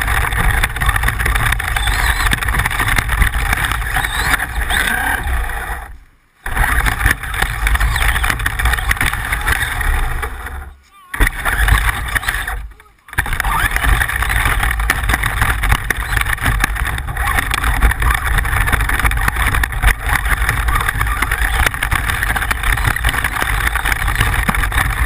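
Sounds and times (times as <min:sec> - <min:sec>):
small clicks and knocks: 0:00.0 - 0:04.7, 0:06.5 - 0:10.4, 0:11.2 - 0:25.0
rc car motor running: 0:00.0 - 0:12.6, 0:13.2 - 0:25.0
gritty noise: 0:00.0 - 0:25.0.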